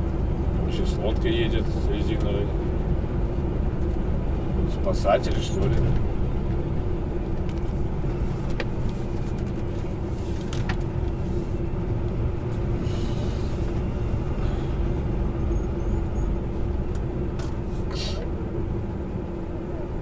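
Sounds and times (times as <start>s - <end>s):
road rumble: 0.0s - 20.0s
truck engine droning: 0.0s - 20.0s.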